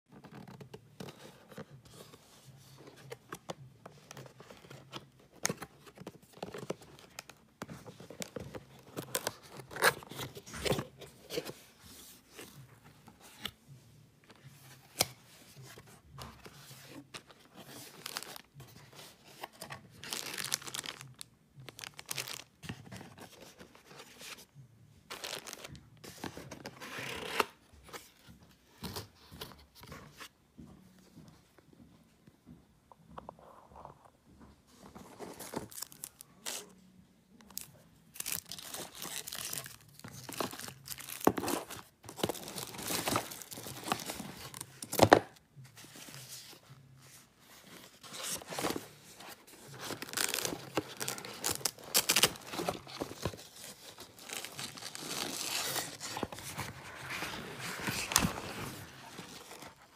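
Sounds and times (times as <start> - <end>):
cardboard and plastic rustling: 0.1 - 30.3, 34.6 - 36.8, 37.4 - 59.9.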